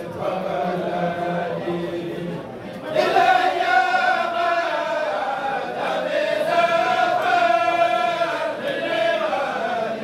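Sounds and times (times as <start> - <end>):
men chanting together: 0.0 - 10.0.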